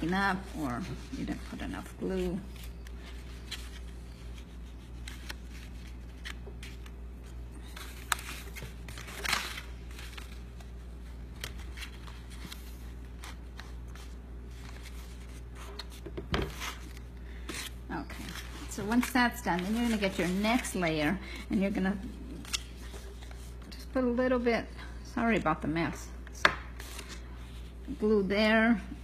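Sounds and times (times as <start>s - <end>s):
paper rustling and scraping: 0.0s - 23.9s
steady low hum: 0.0s - 29.0s.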